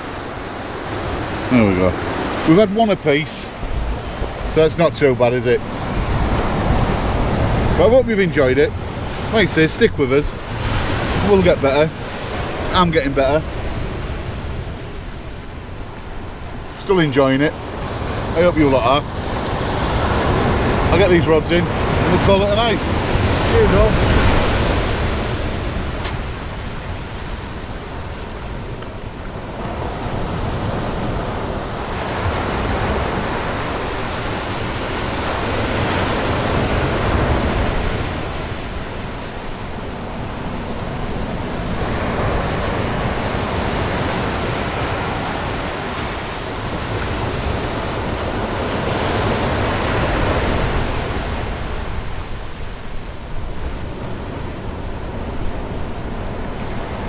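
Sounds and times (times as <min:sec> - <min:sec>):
surf breaking on a beach: 0:00.0 - 0:57.0
wind rumble: 0:00.0 - 0:57.0.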